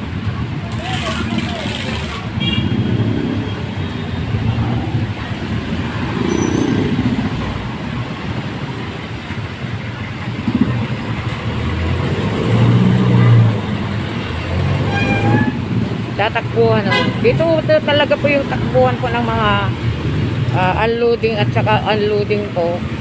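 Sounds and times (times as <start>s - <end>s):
vehicle engines rumbling: 0.0s - 23.0s.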